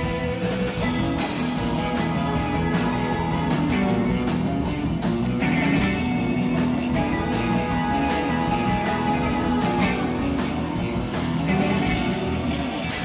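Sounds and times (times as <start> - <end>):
drums: 0.0 - 13.0
electric guitar: 0.0 - 13.0.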